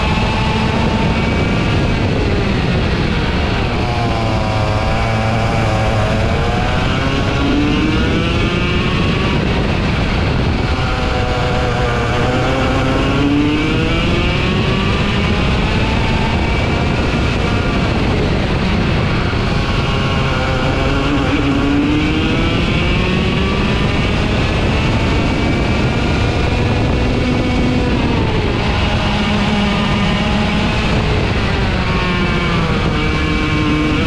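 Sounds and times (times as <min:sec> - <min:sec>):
two-stroke kart engine: 0:00.0 - 0:34.0.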